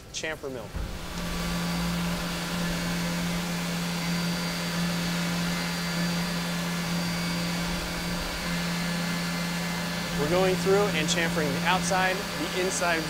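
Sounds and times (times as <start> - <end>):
milling machine spindle humming: 0.0 - 13.0.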